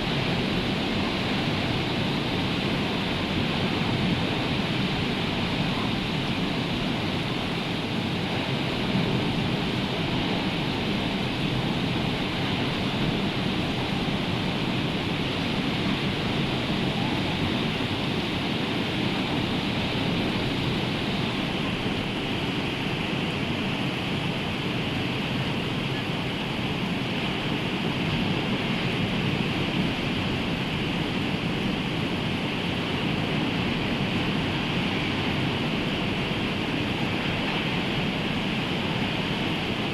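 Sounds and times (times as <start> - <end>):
rain: 0.0 - 39.9
rough sea surf: 0.0 - 39.9.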